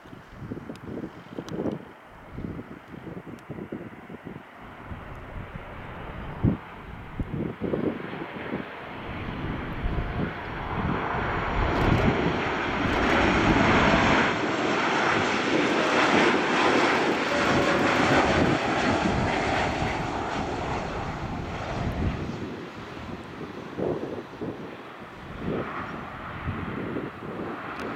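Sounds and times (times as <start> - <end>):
jet engine roar: 0.3 - 27.9.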